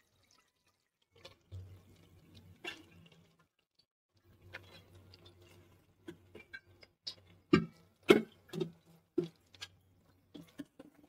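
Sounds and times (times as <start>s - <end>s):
gravy bubbling in a pot: 0.0s - 11.0s.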